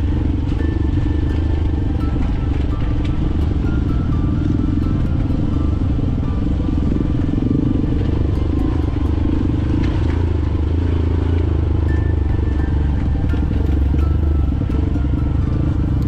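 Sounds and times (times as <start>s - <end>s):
dirt bike engine droning: 0.0s - 16.0s.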